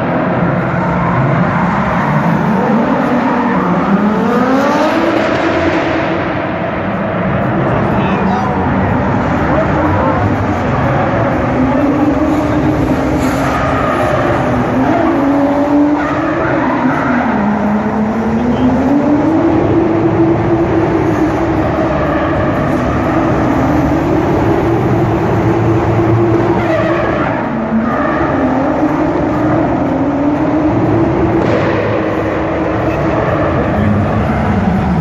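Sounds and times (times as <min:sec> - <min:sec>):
car engine at high revs: 0:00.0 - 0:35.0
tyres skidding and squealing: 0:00.0 - 0:35.0.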